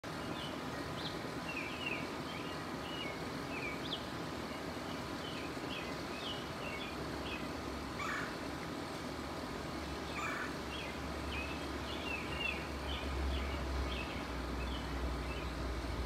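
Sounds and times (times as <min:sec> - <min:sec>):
small birds chirping: 0:00.1 - 0:08.4, 0:10.0 - 0:16.0.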